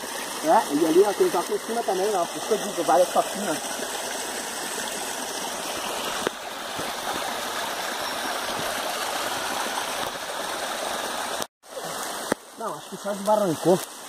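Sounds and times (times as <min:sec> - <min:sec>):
forest stream running: 0:00.0 - 0:14.0.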